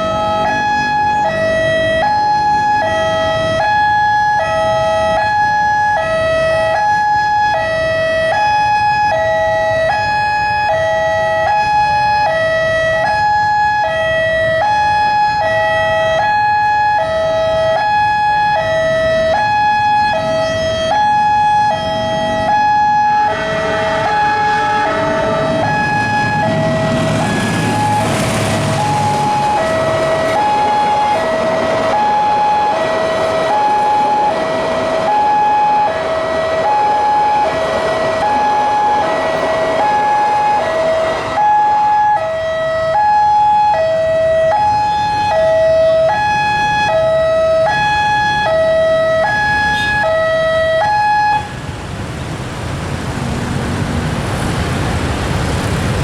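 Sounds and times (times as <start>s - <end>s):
level crossing alarm tones: 0.0s - 51.7s
diesel train passing: 0.0s - 56.0s.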